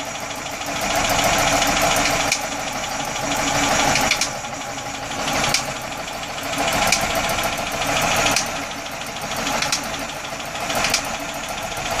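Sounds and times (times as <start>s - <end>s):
boat engine idling: 0.0s - 12.0s
engine popping: 0.0s - 12.0s.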